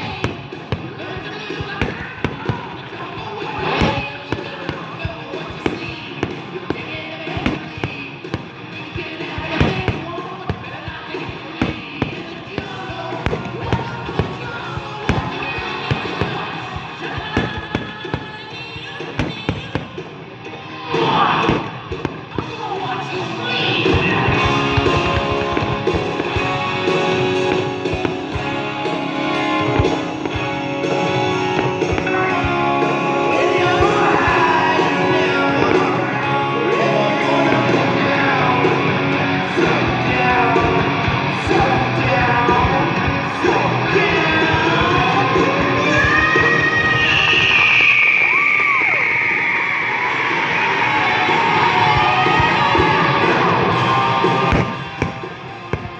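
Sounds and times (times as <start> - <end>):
amplified rock music: 0.0 - 48.0, 49.9 - 55.9
fireworks bangs: 0.0 - 49.0, 50.2 - 55.9.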